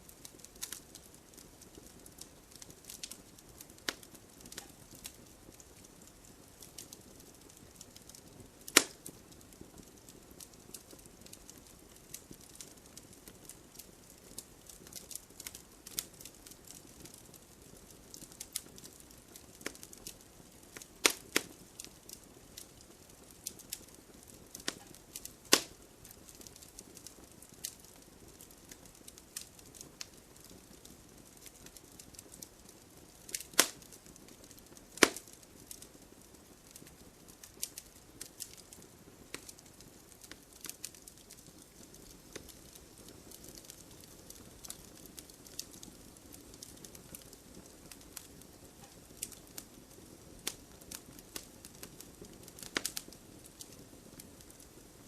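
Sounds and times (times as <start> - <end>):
faint steady hiss: 0.0 - 55.0
wood fire crackling: 0.0 - 55.0.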